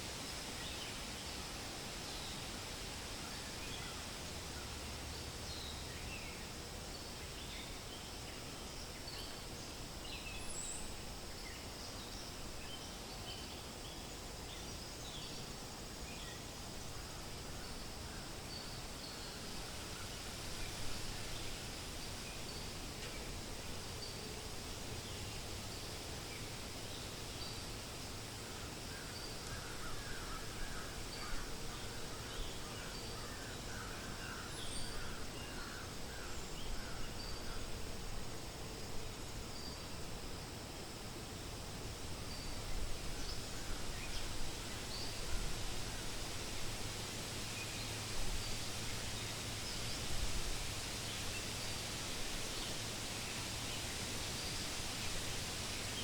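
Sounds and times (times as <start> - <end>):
wind rustling through leaves: 0.0 - 56.0.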